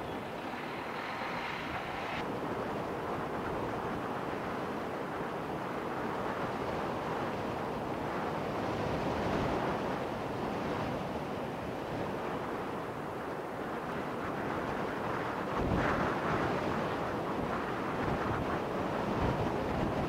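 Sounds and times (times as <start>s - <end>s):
wind roaring on microphone: 0.0s - 20.0s.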